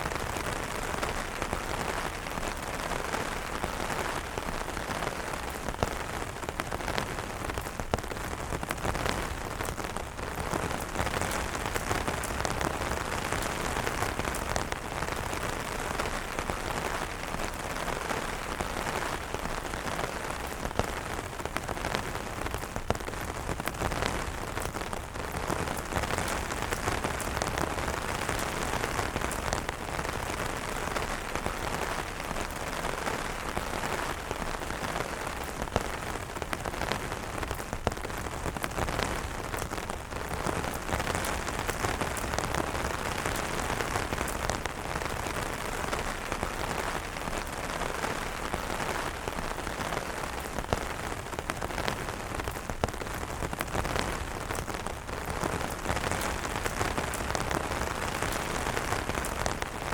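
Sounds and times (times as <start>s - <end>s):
rain on umbrellas: 0.0s - 59.9s.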